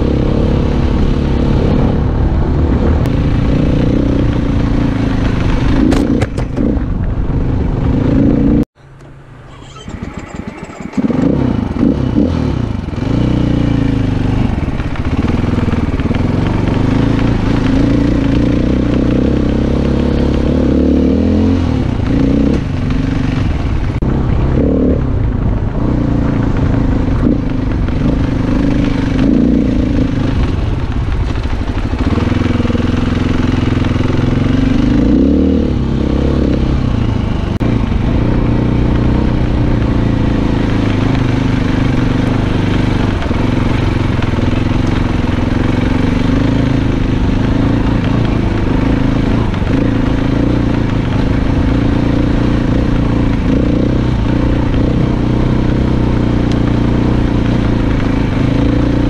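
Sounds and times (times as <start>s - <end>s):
dirt bike engine revving: 9.3s - 25.2s, 25.8s - 59.0s.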